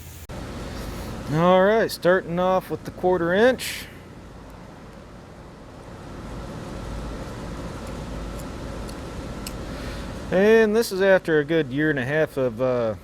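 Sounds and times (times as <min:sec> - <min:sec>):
low rumble and hiss: 0:00.0 - 0:13.0.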